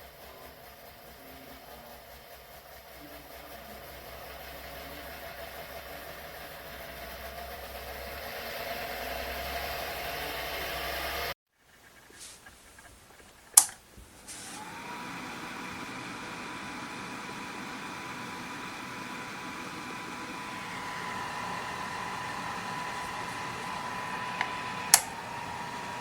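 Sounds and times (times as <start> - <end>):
electric fan humming: 0.0 - 11.4, 12.0 - 26.0.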